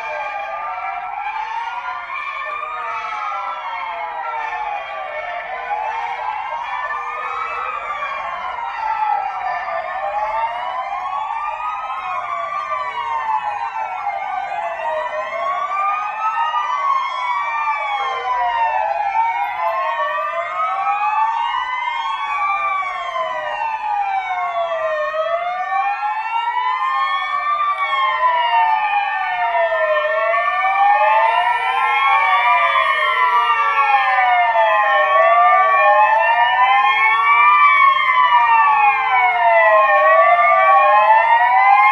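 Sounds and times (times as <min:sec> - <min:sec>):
sirens wailing: 0:00.0 - 0:41.9.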